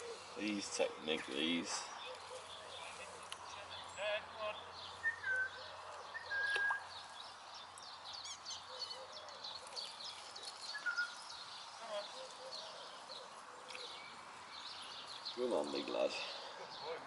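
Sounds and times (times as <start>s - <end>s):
outdoor background hiss: 0.0s - 17.0s
small birds chirping and singing: 0.0s - 17.0s.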